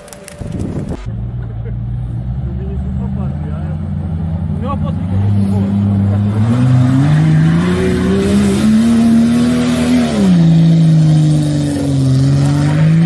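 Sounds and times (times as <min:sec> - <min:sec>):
suv engine revving hard: 0:02.4 - 0:13.0.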